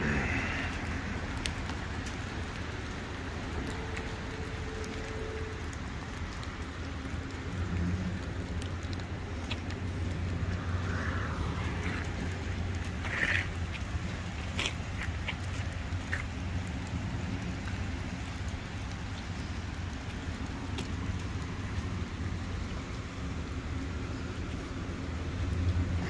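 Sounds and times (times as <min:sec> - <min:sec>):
outdoor noise: 0:00.0 - 0:26.0.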